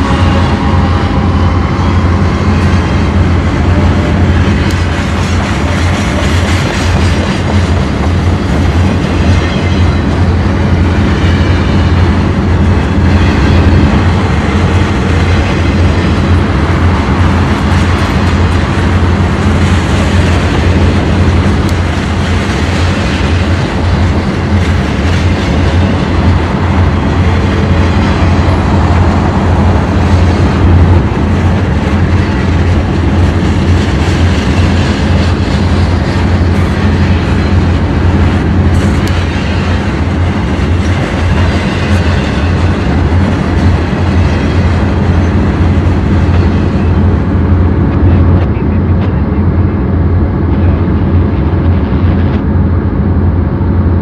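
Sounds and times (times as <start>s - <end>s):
diesel locomotive droning: 0.0s - 54.0s
rail noise: 0.0s - 54.0s.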